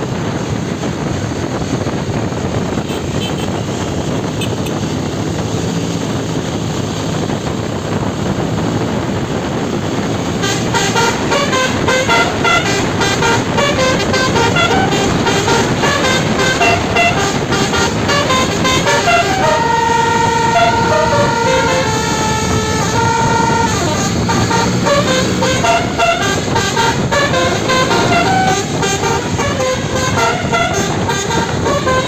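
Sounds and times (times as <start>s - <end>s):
bus engine and road noise: 0.0s - 32.0s
melodic bus horn: 2.2s - 5.0s, 8.8s - 32.0s.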